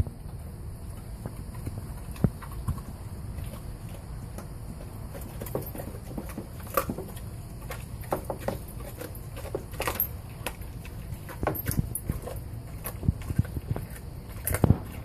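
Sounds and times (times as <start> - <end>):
dog chewing meat and bone: 0.0 - 15.0.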